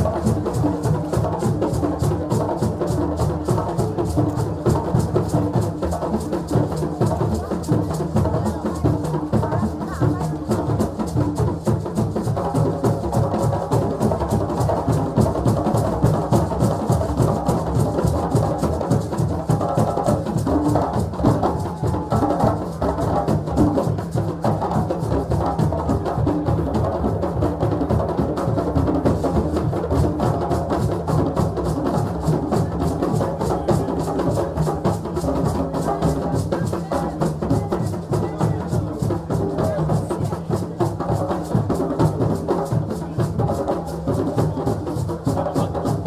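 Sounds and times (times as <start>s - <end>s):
drums playing fast rhythm: 0.0s - 46.0s.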